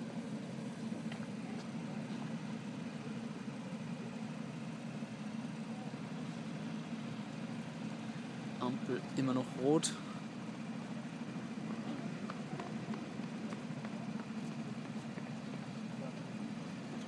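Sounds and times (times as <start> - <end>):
racing karts idling: 0.0 - 17.0.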